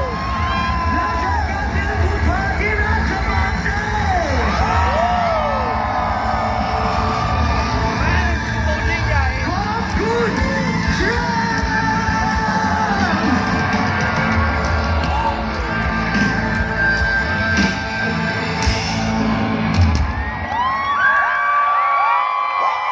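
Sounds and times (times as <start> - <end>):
rock music with singing: 0.0 - 20.9
crowd yelling: 0.0 - 22.9.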